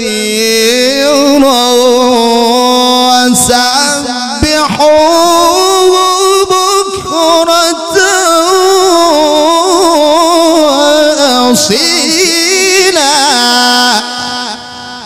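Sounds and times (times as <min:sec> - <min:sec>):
man reciting melodically into microphone: 0:00.0 - 0:15.0.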